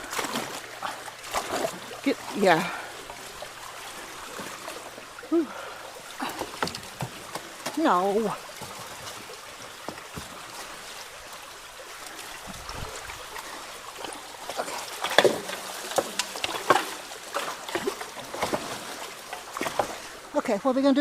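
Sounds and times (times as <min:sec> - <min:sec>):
rushing water: 0:00.0 - 0:21.0
splashes and knocks: 0:00.0 - 0:21.0.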